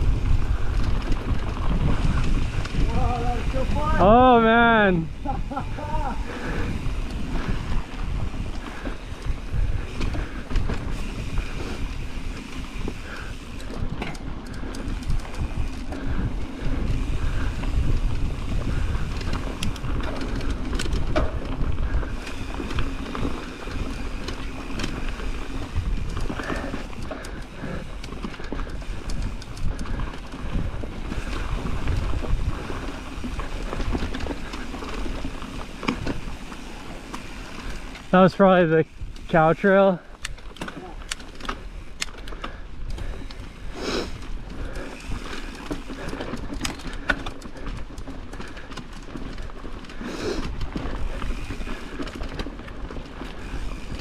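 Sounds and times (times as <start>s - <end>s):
wind buffeting microphone: 0.0s - 39.4s, 40.2s - 54.0s
bike clicking and knocking: 0.0s - 54.0s
tyres rumbling on dirt: 0.0s - 54.0s.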